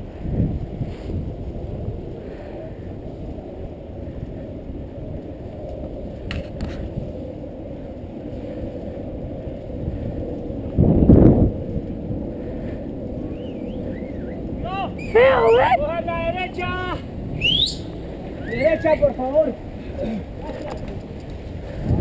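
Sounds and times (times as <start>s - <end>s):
bike tyres rolling on asphalt: 0.0s - 22.0s
wind buffeting microphone: 0.0s - 22.0s.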